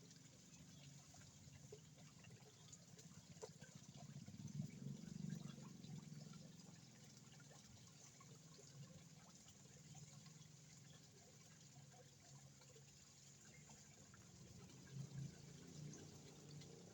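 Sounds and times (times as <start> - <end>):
water trickling: 0.0 - 16.9.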